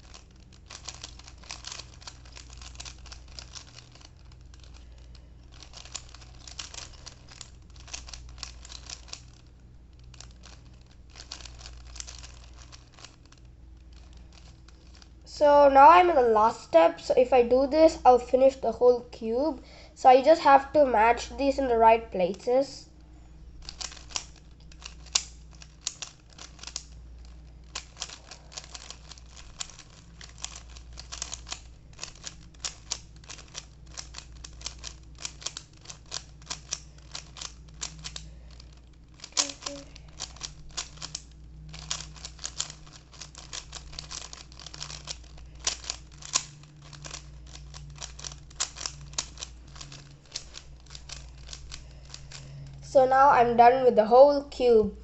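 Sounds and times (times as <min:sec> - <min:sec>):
plastic puzzle cube clicking: 0:00.0 - 0:15.2, 0:23.6 - 0:52.8.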